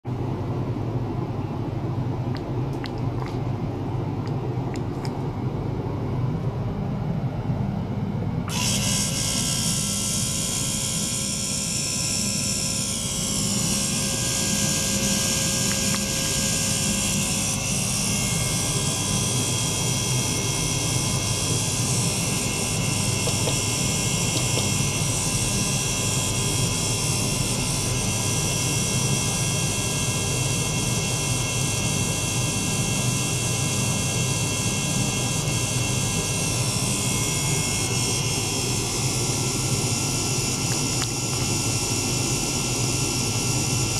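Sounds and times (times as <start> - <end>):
small pump motor whining: 8.4 - 43.9.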